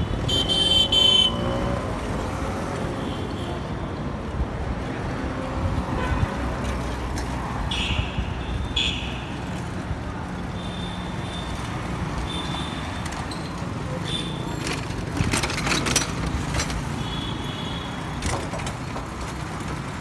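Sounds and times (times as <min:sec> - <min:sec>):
motor vehicles running: 0:00.0 - 0:20.0.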